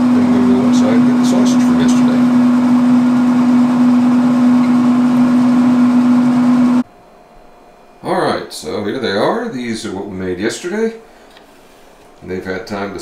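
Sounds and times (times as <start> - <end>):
grill fan humming: 0.0 - 13.0.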